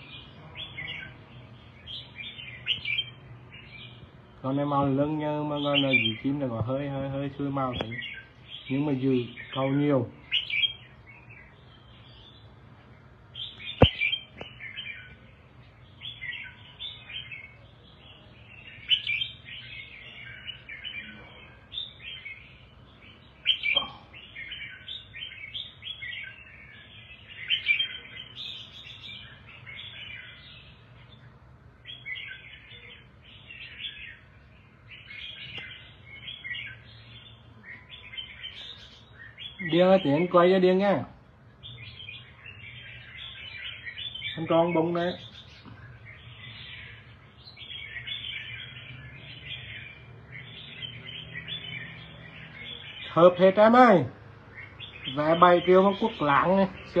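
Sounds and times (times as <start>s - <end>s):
bird singing high warbling phrases: 0.0s - 57.0s.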